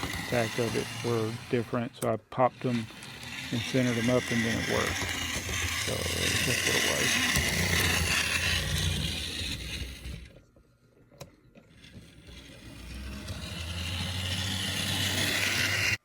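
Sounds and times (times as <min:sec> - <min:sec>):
model train running on track: 0:00.0 - 0:10.3, 0:11.8 - 0:16.0.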